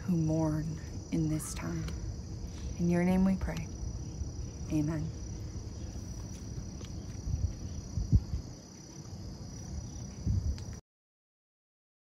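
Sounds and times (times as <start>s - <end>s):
crickets chirping: 0.0s - 10.8s
low outdoor rumble: 0.0s - 10.8s.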